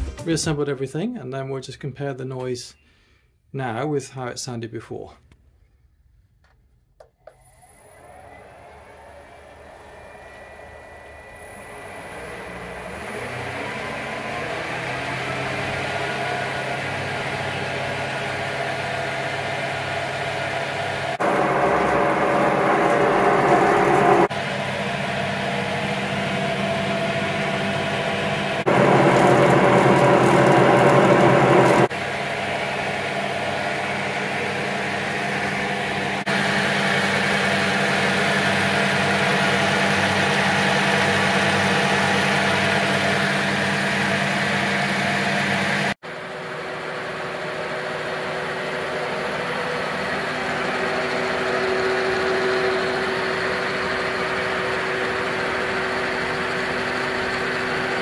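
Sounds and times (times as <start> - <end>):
milling machine mechanical hum: 7.5 - 58.0.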